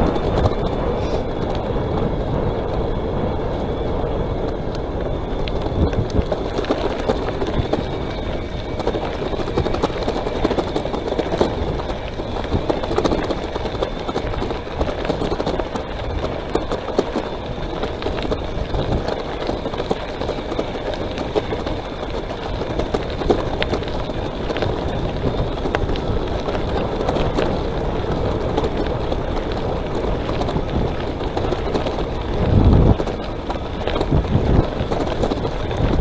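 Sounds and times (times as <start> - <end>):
wind and tyre rushing noise: 0.0 - 36.0
small clicks and rattles: 4.4 - 36.0.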